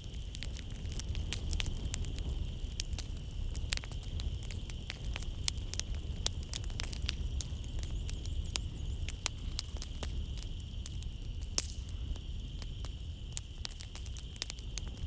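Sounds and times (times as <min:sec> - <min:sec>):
low rumble of flames: 0:00.0 - 0:15.0
night insects droning: 0:00.0 - 0:15.0
wood fire crackling and popping: 0:00.0 - 0:15.0.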